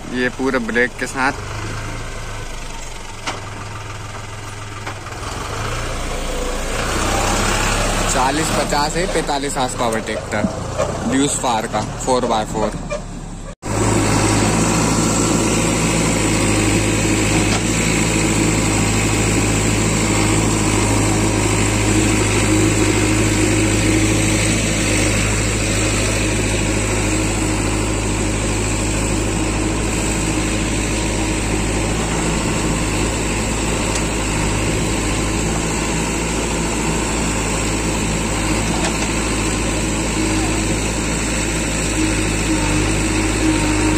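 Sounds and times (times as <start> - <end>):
backhoe digging: 0.0 - 43.9
diesel engine running: 0.0 - 43.9.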